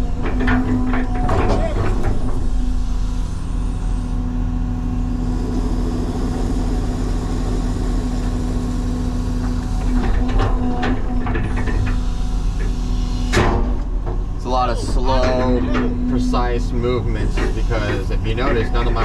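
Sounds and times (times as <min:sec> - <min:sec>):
excavator engine and hydraulic hum: 0:00.0 - 0:19.0.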